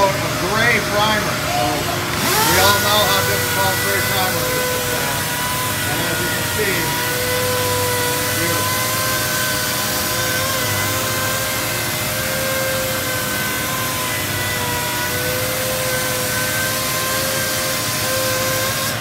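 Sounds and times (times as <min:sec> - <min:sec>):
orbital sander whining: 0:00.0 - 0:19.0.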